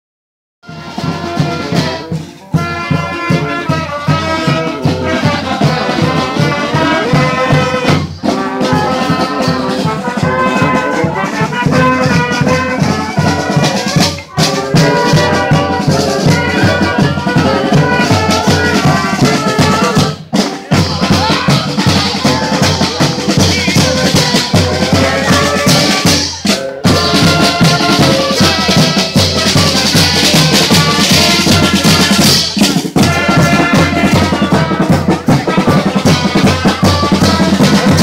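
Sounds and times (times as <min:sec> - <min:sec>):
band playing with driving beat: 0:00.6 - 0:38.0.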